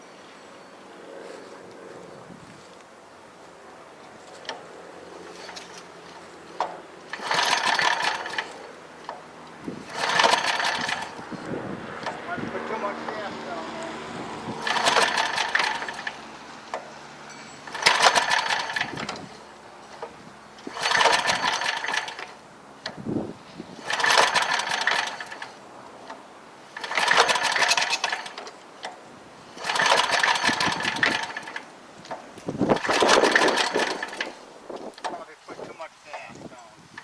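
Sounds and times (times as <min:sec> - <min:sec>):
engine pull-start rope whirring: 0:04.1 - 0:37.0.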